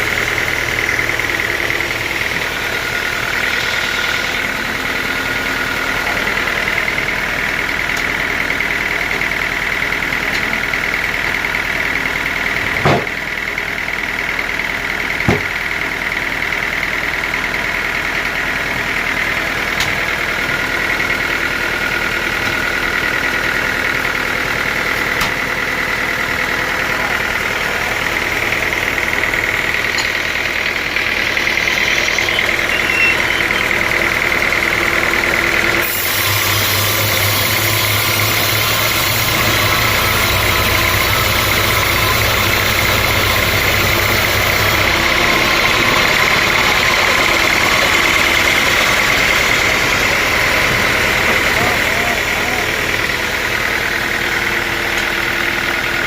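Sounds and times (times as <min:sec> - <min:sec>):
saw machinery whining: 0:00.0 - 0:13.2, 0:16.1 - 0:56.0.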